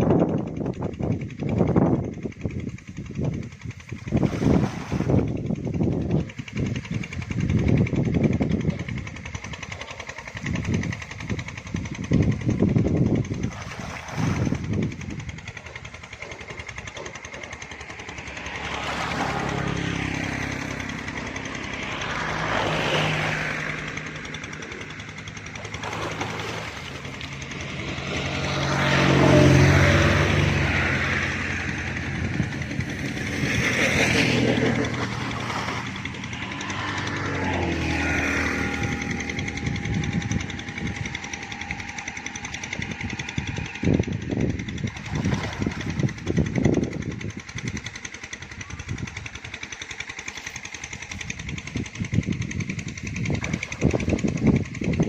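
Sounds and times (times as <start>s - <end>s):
low rumbling: 0.0s - 55.0s
vehicles passing on road: 0.0s - 55.0s.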